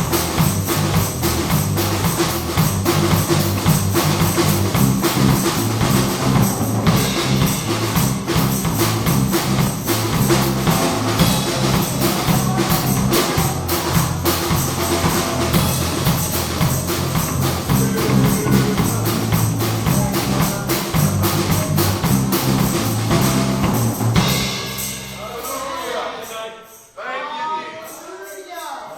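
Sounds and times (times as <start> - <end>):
bass line: 0.0 - 25.8
drum and percussion beat: 0.0 - 26.8
gospel band playing: 0.0 - 28.1.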